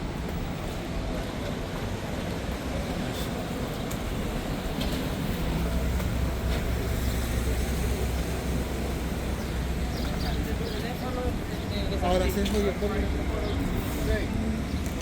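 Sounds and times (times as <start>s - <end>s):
low vehicle engine rumble: 0.0s - 15.0s
street traffic: 0.0s - 15.0s.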